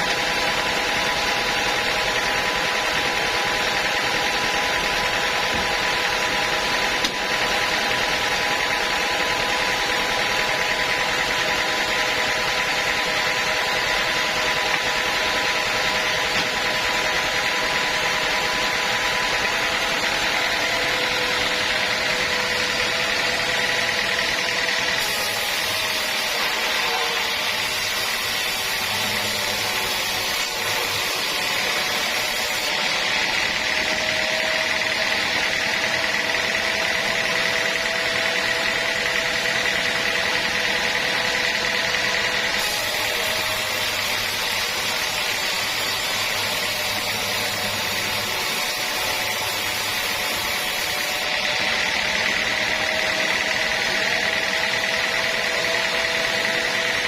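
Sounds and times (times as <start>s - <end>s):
sawmill saw whining: 0.0s - 57.0s.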